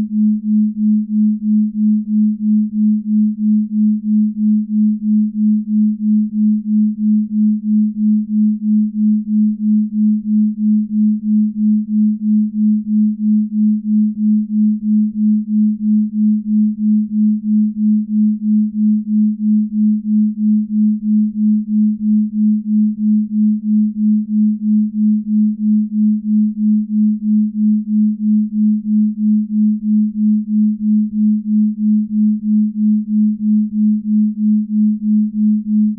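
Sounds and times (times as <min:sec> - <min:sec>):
pulsing pure tone: 0:00.0 - 0:35.9.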